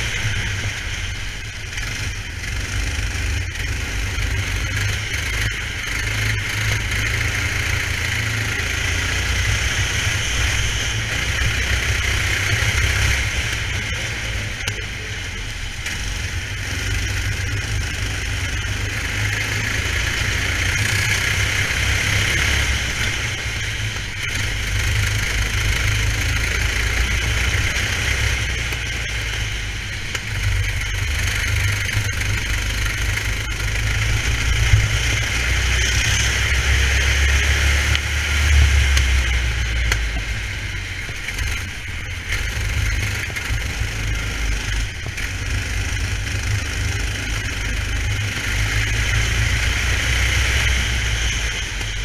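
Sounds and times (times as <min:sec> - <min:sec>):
racing kart engine running hard: 0:00.0 - 0:52.0.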